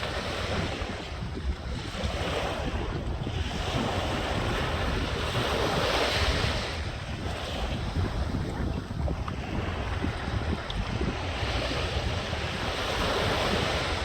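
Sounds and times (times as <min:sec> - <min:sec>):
water washing and gurgling: 0:00.0 - 0:14.0
wind buffeting microphone: 0:00.0 - 0:14.0.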